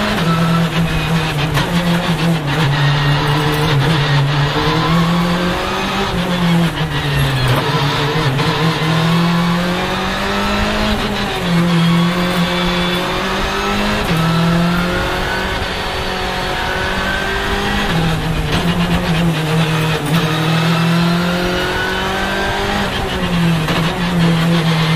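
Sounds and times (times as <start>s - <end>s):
rally car engine revving: 0.0s - 24.9s.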